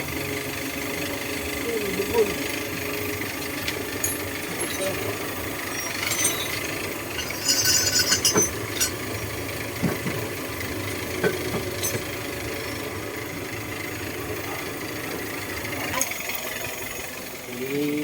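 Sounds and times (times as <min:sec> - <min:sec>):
car engine idling: 0:00.0 - 0:18.0
engine metallic clatter: 0:00.0 - 0:18.0
engine knocks: 0:02.3 - 0:17.4.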